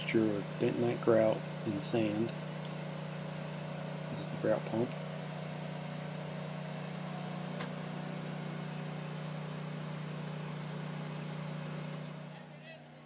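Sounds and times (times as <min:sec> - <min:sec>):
pump engine humming: 0:00.0 - 0:13.0.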